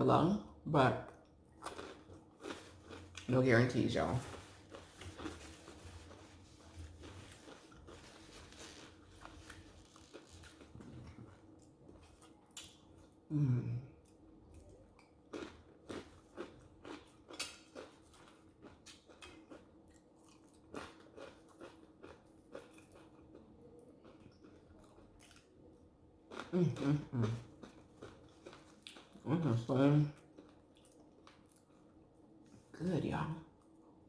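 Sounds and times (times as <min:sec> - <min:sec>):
person chewing crunchy food: 0:01.1 - 0:03.3, 0:04.2 - 0:13.2, 0:14.0 - 0:29.2, 0:30.2 - 0:32.0.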